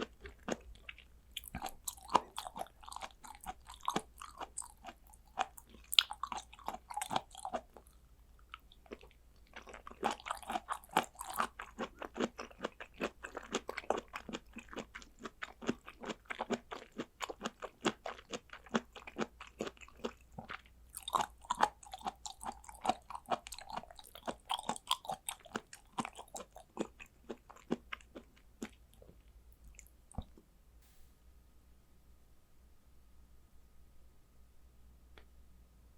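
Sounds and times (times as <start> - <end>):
chewing mouth clicks: 0.0 - 30.3.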